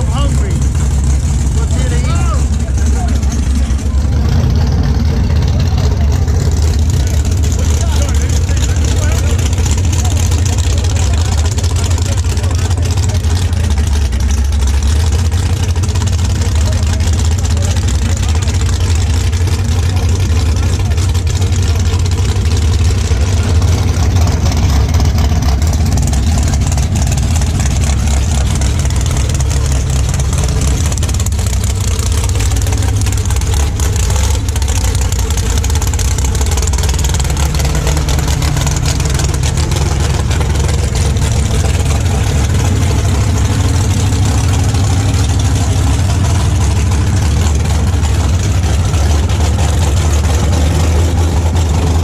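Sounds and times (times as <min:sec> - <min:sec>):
racing car engine idling: 0:00.0 - 0:52.0.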